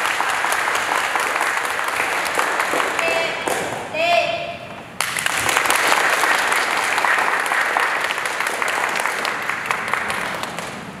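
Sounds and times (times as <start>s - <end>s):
audience applauding: 0.0s - 3.6s, 5.0s - 11.0s.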